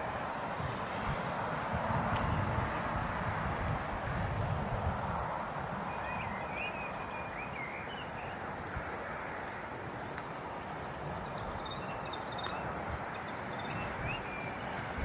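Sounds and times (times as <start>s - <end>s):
small songbirds chirping: 0.0s - 4.2s, 5.4s - 15.0s.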